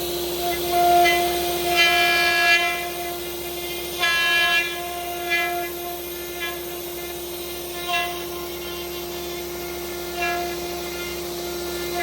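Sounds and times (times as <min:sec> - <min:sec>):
router bit cutting wood: 0:00.0 - 0:12.0
router spindle whining: 0:00.0 - 0:12.0.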